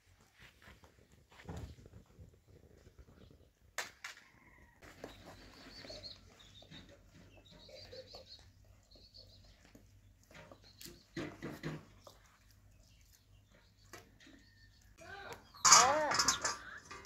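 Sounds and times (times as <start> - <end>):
faint chickens: 0.2 - 17.0.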